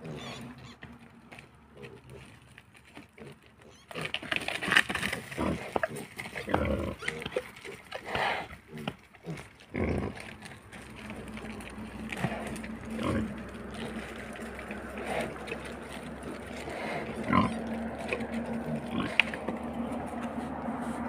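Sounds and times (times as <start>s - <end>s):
wild boar grunting and squealing: 0.0s - 21.0s.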